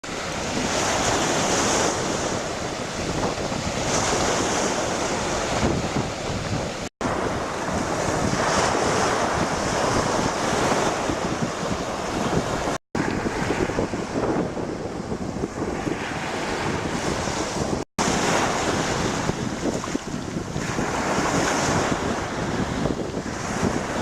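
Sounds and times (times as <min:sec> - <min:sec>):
waves breaking on shore: 0:00.0 - 0:24.0
wind rumbling on microphone: 0:00.0 - 0:24.0.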